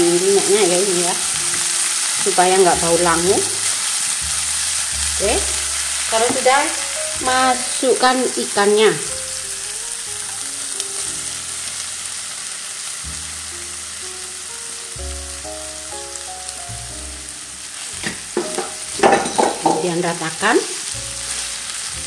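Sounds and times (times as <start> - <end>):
fish sizzling in a pan: 0.0 - 22.0
soft background music: 0.0 - 22.0.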